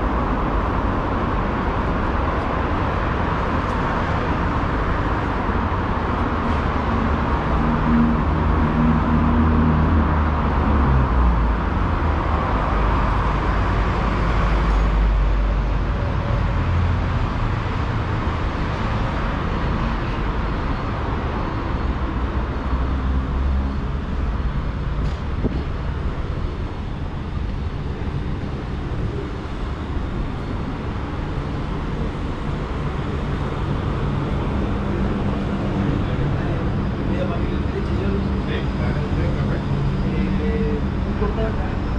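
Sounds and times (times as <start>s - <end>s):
road traffic passing: 0.0s - 41.9s.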